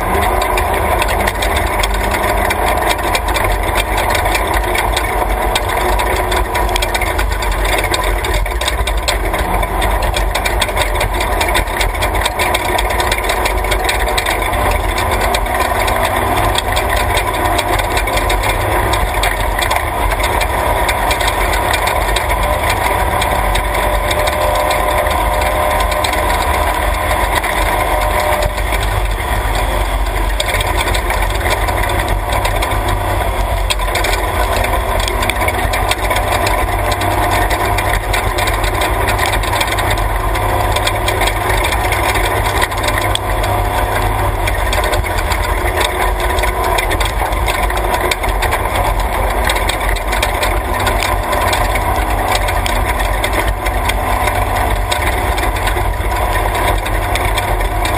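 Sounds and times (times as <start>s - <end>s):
body and suspension rattles: 0.0s - 57.9s
gravel under tyres: 0.0s - 57.9s
truck engine running under load: 0.0s - 57.9s.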